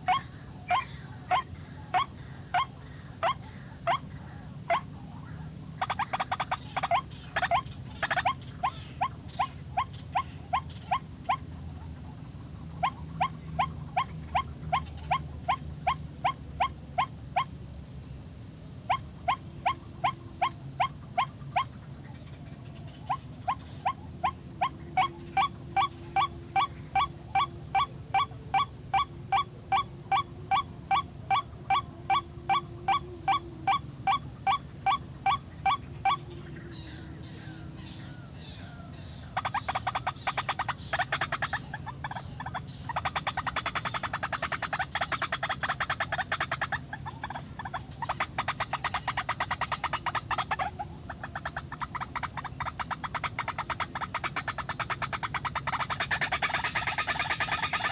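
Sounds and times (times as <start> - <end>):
waterhen calling: 0.0 - 17.6, 18.7 - 57.9.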